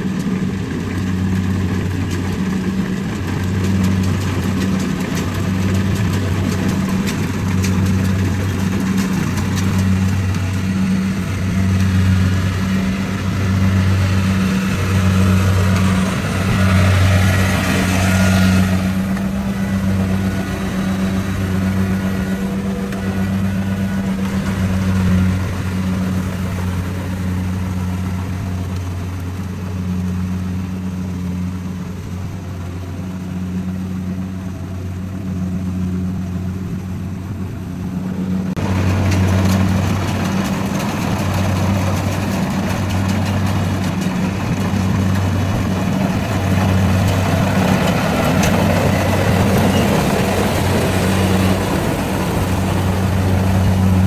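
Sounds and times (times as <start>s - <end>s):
harvester engine throbbing hum: 0.0s - 54.0s.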